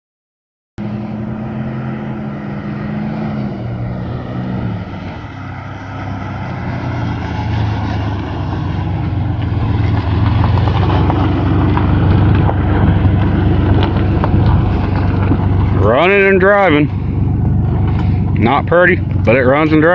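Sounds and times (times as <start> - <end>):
road noise: 0.8 - 19.9
truck engine running: 0.8 - 19.9.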